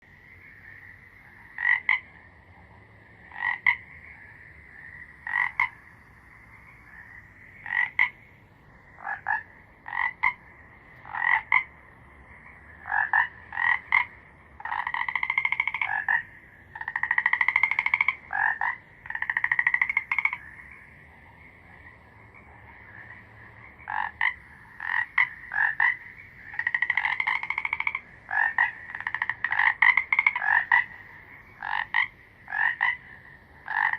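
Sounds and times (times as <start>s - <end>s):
faint steady drone: 0.0s - 33.9s
frogs croaking: 0.0s - 33.9s
frog trills: 0.1s - 33.9s.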